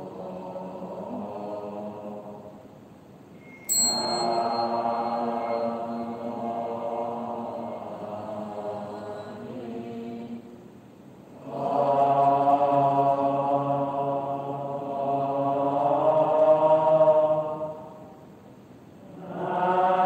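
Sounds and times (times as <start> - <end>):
devotional chanting: 0.0 - 18.4, 19.0 - 20.0.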